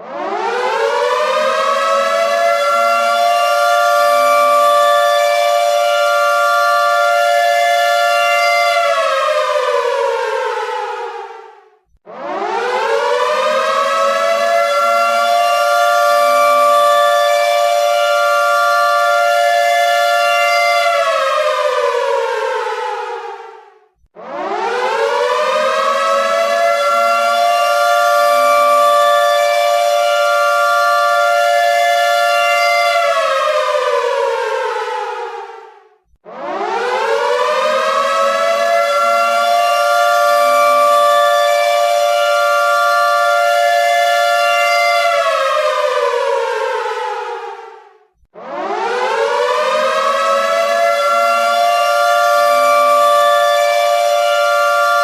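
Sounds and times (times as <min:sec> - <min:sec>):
air raid siren wailing: 0:00.0 - 0:23.6, 0:24.2 - 0:55.0.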